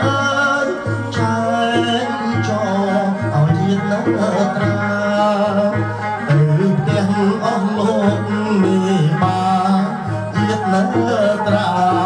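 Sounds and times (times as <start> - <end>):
wedding music with wavering melody: 0.0 - 12.0.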